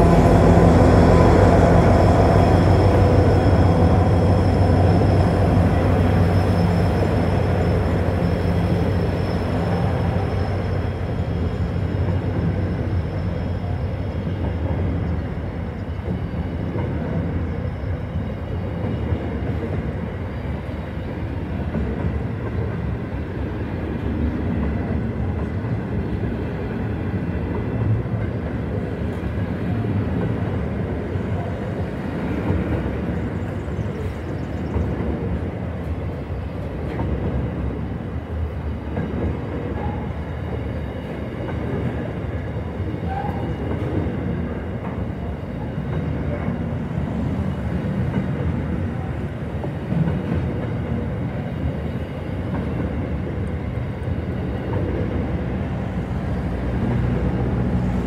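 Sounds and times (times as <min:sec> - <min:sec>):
diesel locomotive engines droning: 0:00.0 - 0:58.0
wagons rumbling and rattling on rails: 0:00.0 - 0:58.0.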